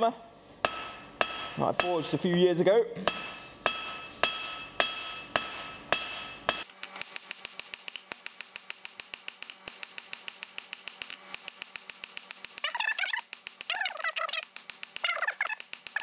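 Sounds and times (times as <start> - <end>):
hammer striking steel on anvil: 0.6 - 16.0.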